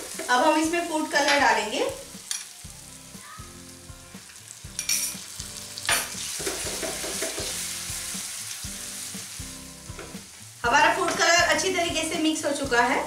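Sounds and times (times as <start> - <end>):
mixture sizzling in a pan: 0.0 - 13.0.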